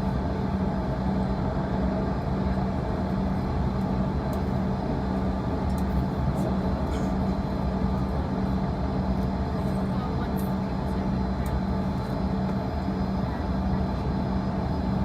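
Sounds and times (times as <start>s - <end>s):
aircraft cabin hum: 0.0s - 15.0s
jet engines running low: 0.0s - 15.0s.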